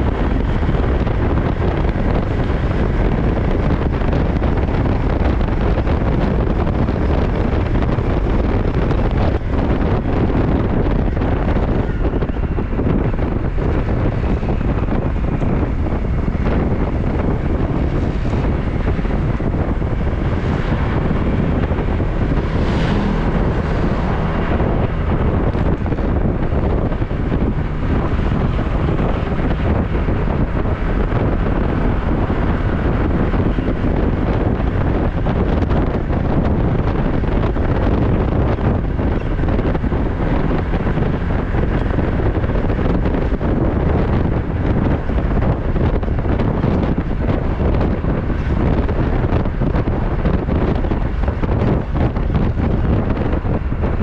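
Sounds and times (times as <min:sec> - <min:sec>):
heavy low rumble: 0:00.0 - 0:54.0
wind buffeting microphone: 0:00.0 - 0:54.0.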